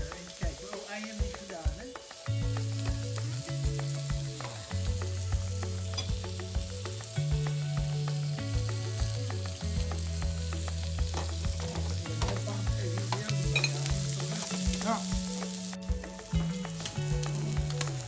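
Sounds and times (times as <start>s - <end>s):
background music with bass and beat: 0.0s - 18.0s
food sizzling in a pan: 0.0s - 18.0s.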